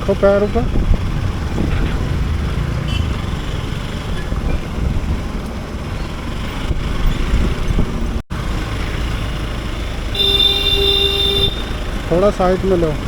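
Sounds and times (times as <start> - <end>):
motorcycle running: 0.0 - 13.0
road and wind noise on microphone: 0.0 - 13.0.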